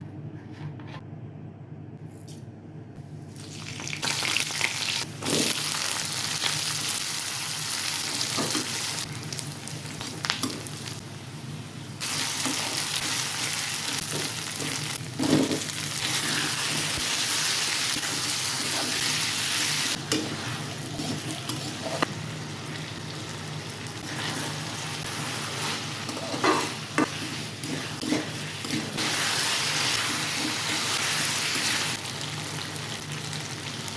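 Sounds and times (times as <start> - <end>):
food sizzling in oil: 3.3 - 33.9.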